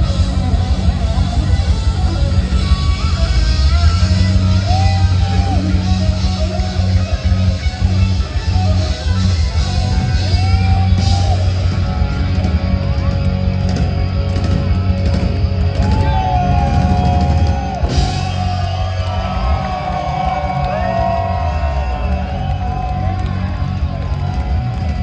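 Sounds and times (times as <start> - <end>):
bending lead guitar notes: 0.0 - 25.0
hard rock band playing live: 0.0 - 25.0.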